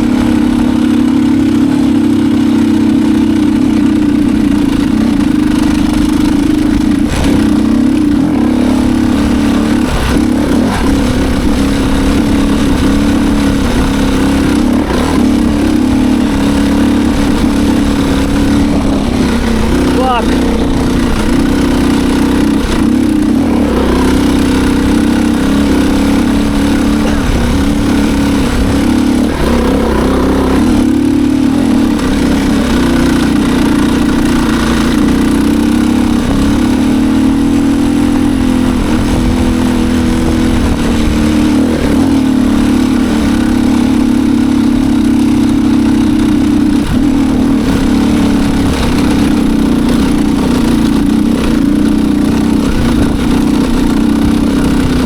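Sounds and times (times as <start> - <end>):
motorcycle engine under load: 0.0 - 55.0.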